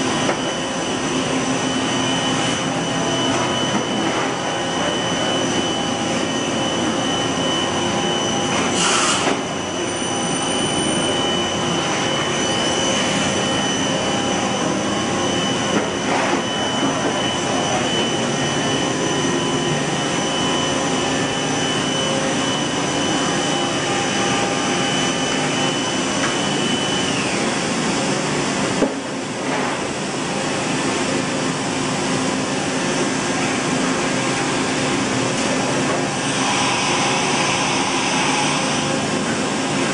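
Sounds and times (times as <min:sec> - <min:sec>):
machine whir and hum: 0:00.0 - 0:39.9.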